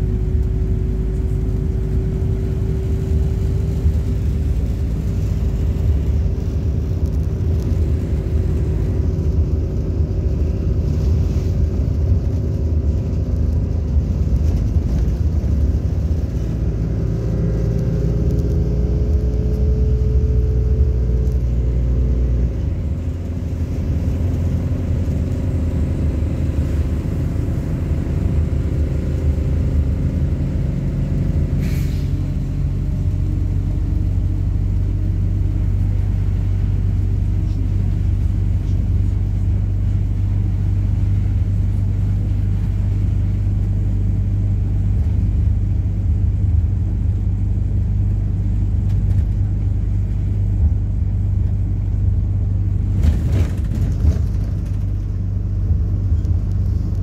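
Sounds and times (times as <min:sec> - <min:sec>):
bus engine drone: 0:00.0 - 0:57.0
road rumble: 0:00.0 - 0:57.0.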